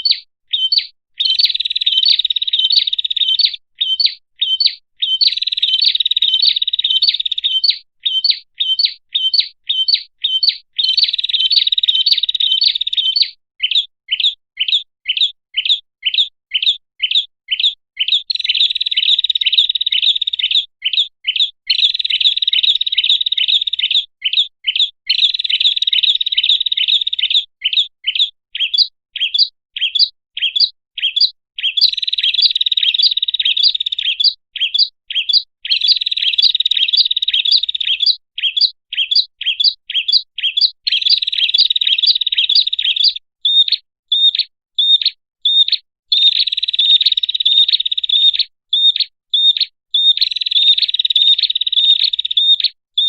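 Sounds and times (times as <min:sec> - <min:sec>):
bird chirping: 0:00.0 - 0:53.0.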